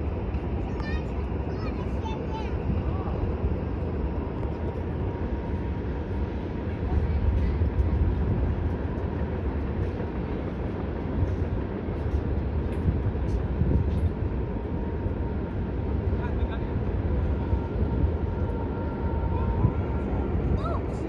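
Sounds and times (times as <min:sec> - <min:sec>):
distant freight train rumble: 0:00.0 - 0:21.0.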